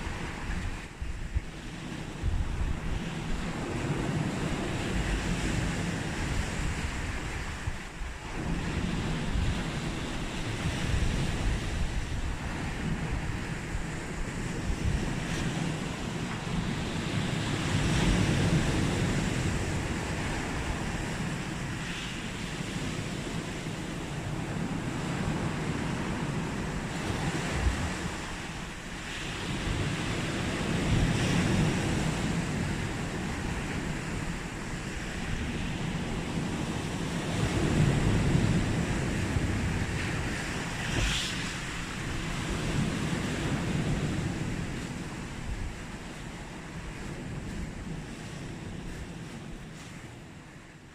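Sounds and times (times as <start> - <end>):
sea waves breaking on shore: 0.0 - 50.9.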